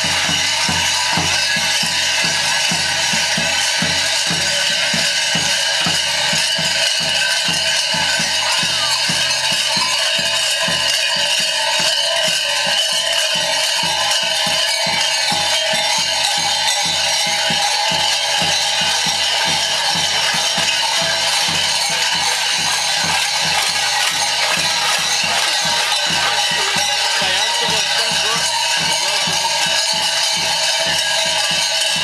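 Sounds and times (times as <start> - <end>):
continuous ringing and jangling: 0.0 - 32.0
drum beating fast rhythm: 0.0 - 32.0.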